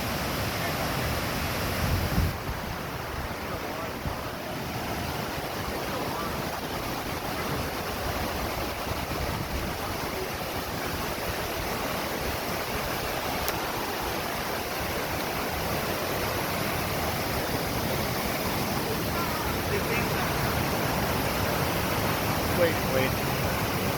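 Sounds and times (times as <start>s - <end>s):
waterfall splashing: 0.0s - 23.9s.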